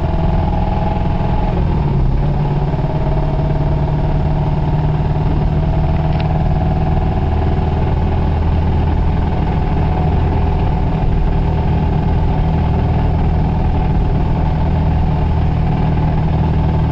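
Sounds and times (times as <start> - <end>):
car engine with knocking bearing: 0.0 - 16.9.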